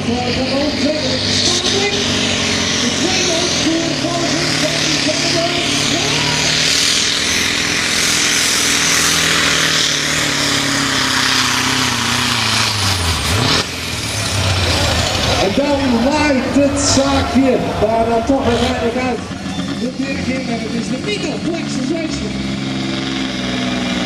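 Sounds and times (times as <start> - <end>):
diesel truck engine roaring: 0.0 - 24.0
exhaust and turbo hiss: 0.0 - 24.0.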